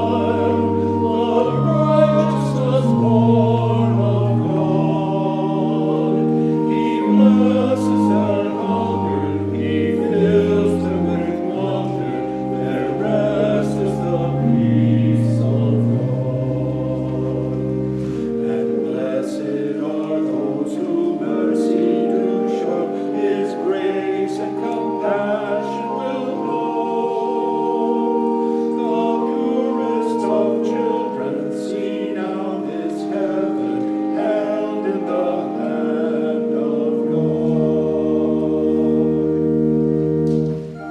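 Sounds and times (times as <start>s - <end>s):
choir singing sacred music: 0.0s - 40.9s.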